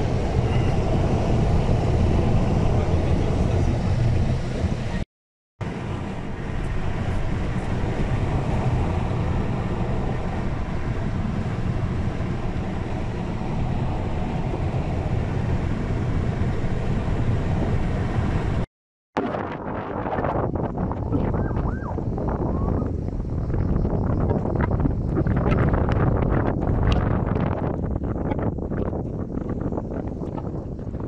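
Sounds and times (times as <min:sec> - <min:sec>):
low rumbling noise: 0:00.0 - 0:05.0, 0:05.6 - 0:31.0.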